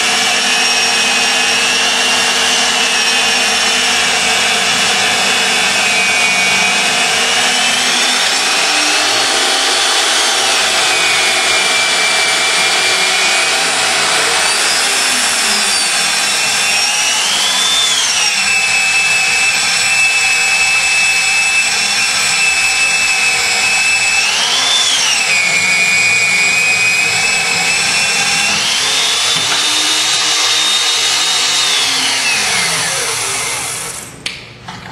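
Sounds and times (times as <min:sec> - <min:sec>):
drill motor whining: 0:00.0 - 0:34.2.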